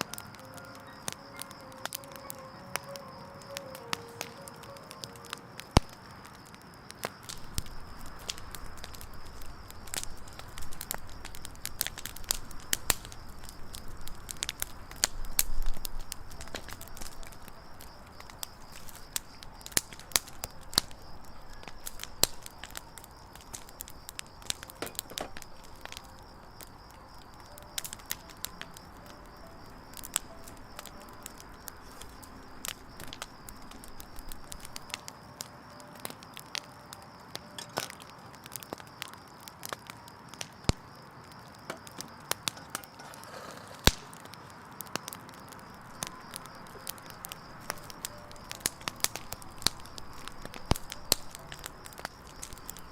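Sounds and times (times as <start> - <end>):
campfire crackling and popping: 0.0 - 52.9
flames hissing: 0.0 - 52.9.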